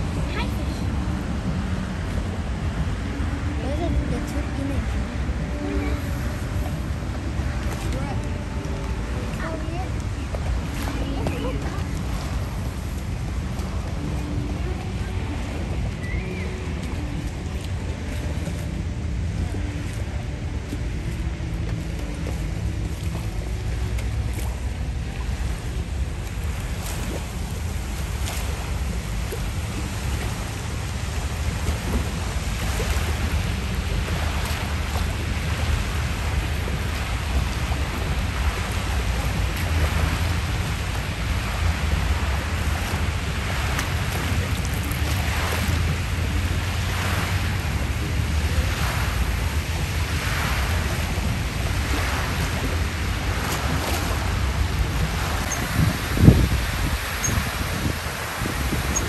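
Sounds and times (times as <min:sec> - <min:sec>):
lake water splashing and lapping: 0:00.0 - 0:59.0
wind buffeting microphone: 0:00.0 - 0:59.0.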